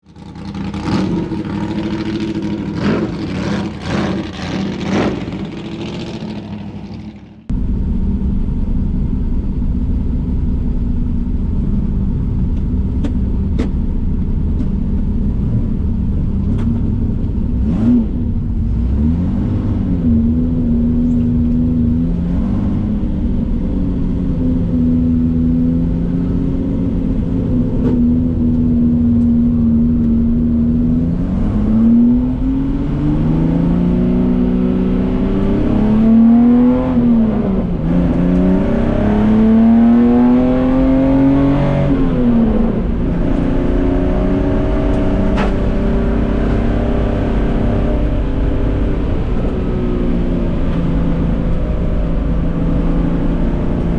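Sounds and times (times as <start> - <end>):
racing car engine revving: 0.0 - 7.5, 17.5 - 53.9.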